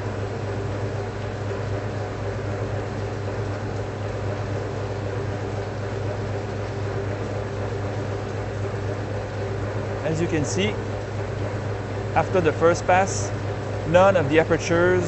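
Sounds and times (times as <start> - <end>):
machinery humming with low drone: 0.0 - 15.0.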